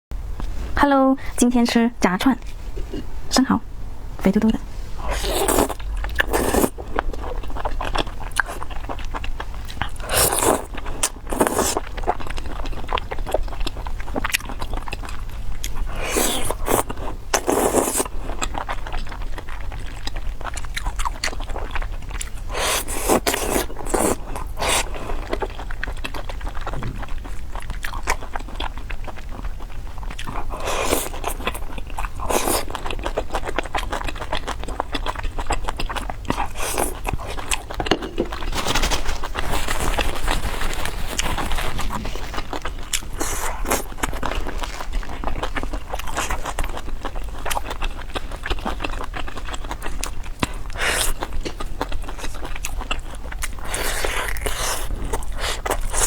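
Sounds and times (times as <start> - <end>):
biting and crunchy chewing: 5.0 - 56.0.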